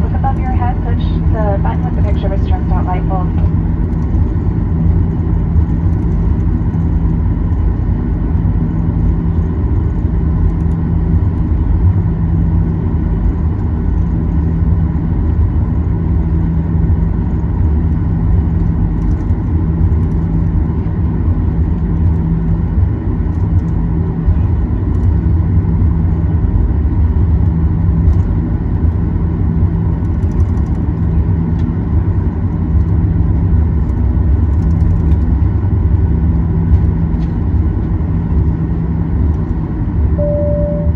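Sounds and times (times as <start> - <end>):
faint engine whine: 0.0 - 40.9
jet engines low rumble: 0.0 - 40.9.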